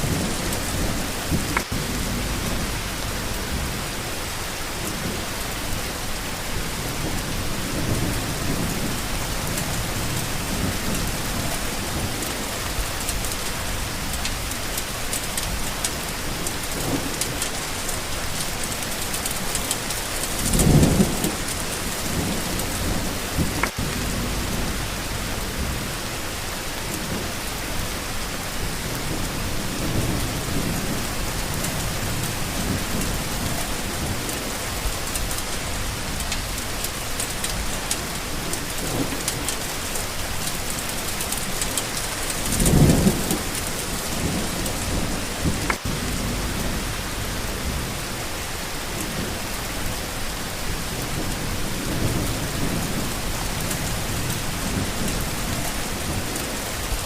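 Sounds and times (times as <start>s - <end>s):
steady rain: 0.0s - 57.0s
thunder rumbling: 0.0s - 57.0s.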